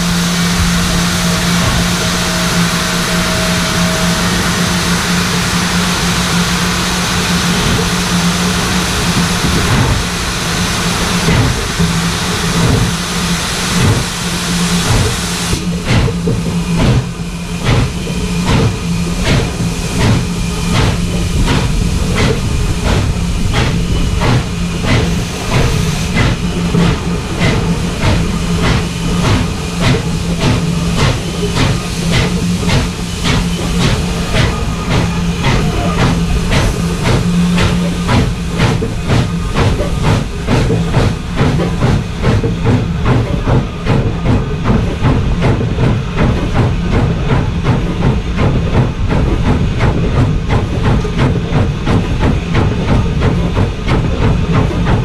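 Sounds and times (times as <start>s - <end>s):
loud steam hiss: 0.0s - 55.0s
steam locomotive exhaust beats: 0.0s - 55.0s.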